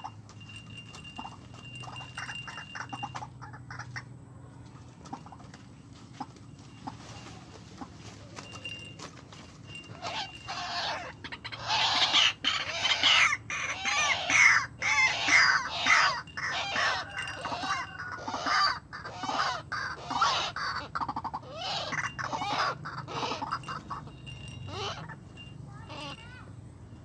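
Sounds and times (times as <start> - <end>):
waterhens calling: 0.0 - 26.3.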